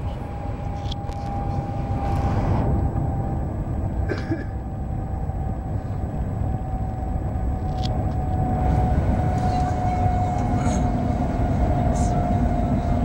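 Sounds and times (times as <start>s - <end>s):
thin steady whine: 0.0s - 13.0s
train cabin low rumble: 0.0s - 13.0s.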